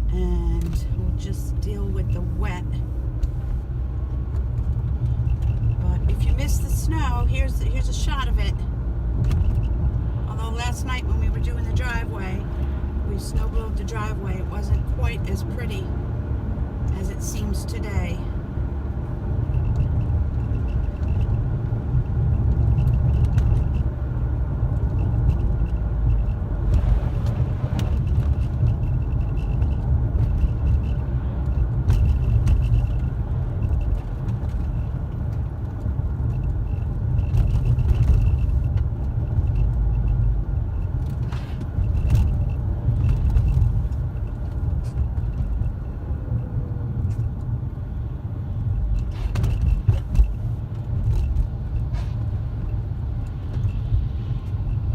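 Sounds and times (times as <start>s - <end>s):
car engine rumble: 0.0s - 54.9s
road noise: 0.0s - 54.9s.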